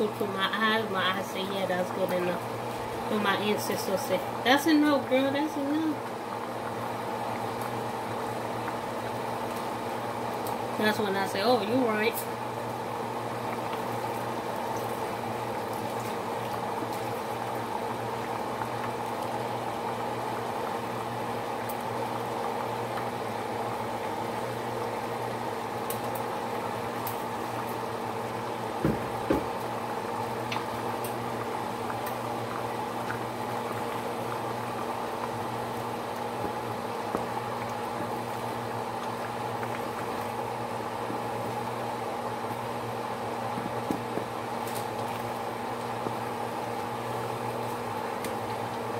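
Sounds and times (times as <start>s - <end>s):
water bubbling in a pan: 0.0s - 48.9s.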